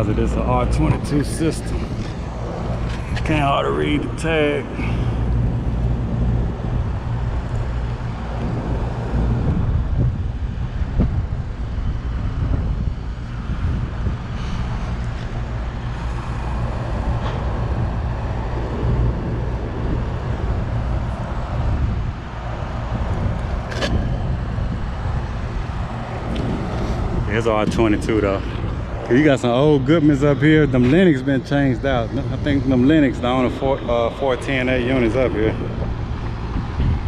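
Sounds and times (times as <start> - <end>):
air conditioner unit humming: 0.0 - 37.0.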